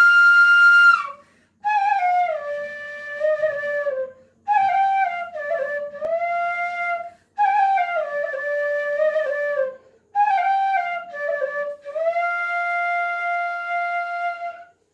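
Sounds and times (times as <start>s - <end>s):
bamboo flute solo: 0.0s - 14.9s.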